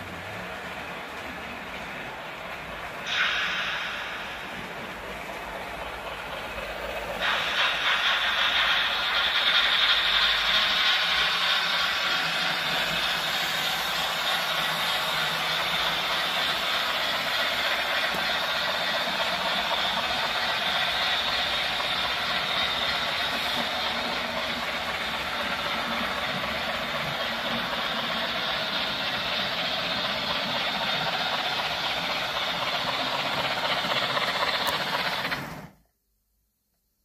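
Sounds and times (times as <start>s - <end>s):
model train wheels clattering: 3.0s - 35.7s.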